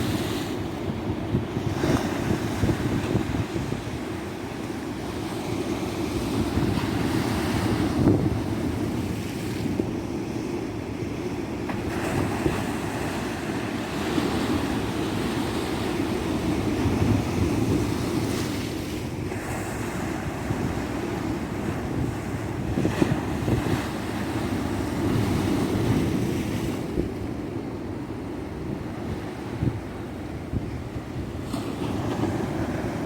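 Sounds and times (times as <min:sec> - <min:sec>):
wind rumbling on microphone: 0:00.0 - 0:05.4, 0:06.0 - 0:10.4, 0:11.7 - 0:33.0
waves breaking on beach: 0:00.0 - 0:33.0.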